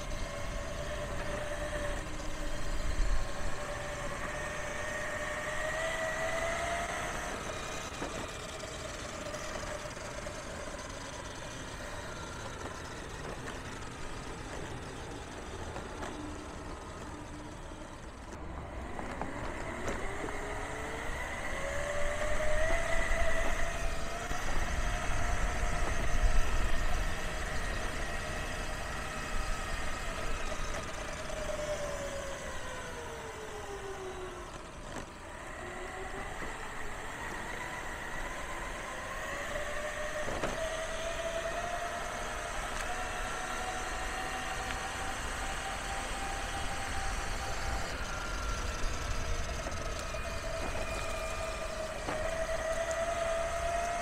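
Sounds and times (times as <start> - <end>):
electric board gears whining: 0.0 - 54.0.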